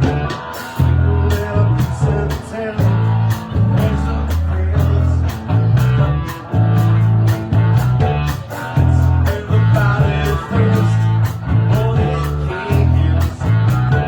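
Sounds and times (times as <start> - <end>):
rock band playing: 0.0 - 14.0.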